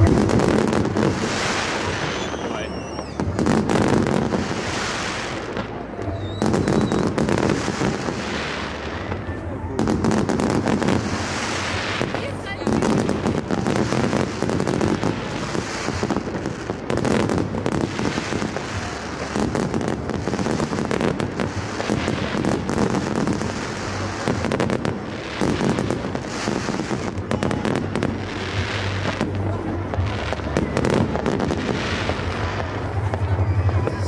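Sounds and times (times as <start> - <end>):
fireworks bursting with bangs and crackles: 0.0 - 34.0.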